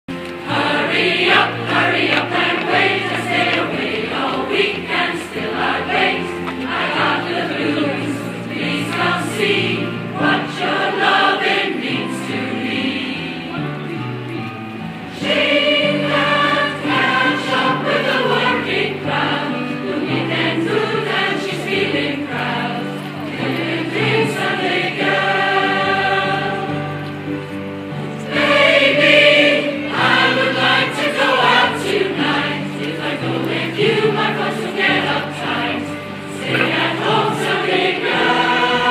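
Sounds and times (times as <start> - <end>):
choir singing in harmony: 0.2 - 38.9.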